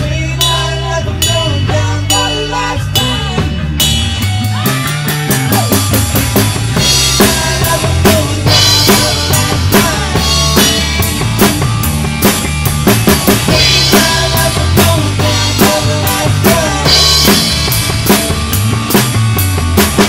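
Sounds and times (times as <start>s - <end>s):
drum kit beat: 0.0s - 20.0s
live rock band playing: 0.0s - 20.0s.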